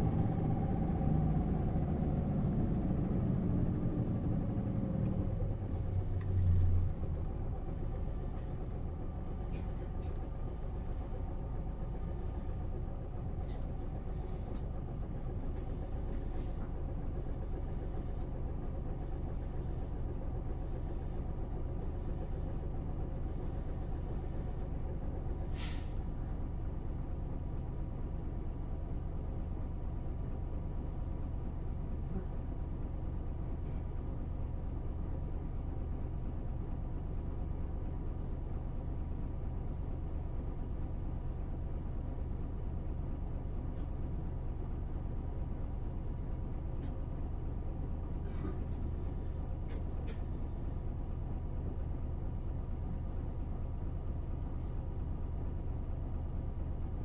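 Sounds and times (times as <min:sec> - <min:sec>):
bus diesel engine humming: 0:00.0 - 0:57.0.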